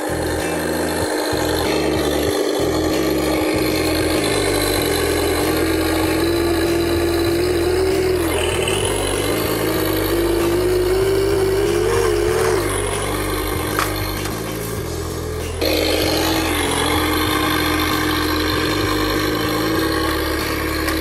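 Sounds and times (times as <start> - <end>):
simulated toy truck engine: 0.0 - 21.0.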